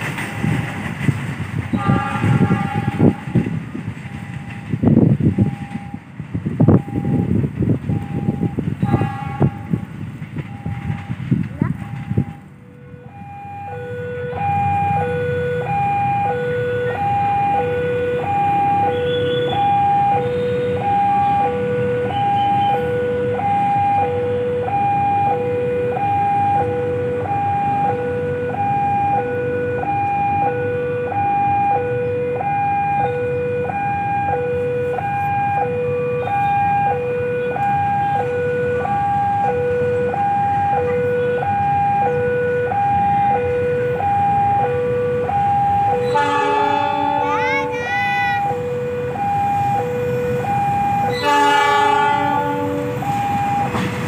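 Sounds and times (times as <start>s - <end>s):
level crossing two-tone alarm: 5.4s - 6.0s, 6.6s - 9.8s, 10.5s - 11.1s, 11.7s - 53.8s.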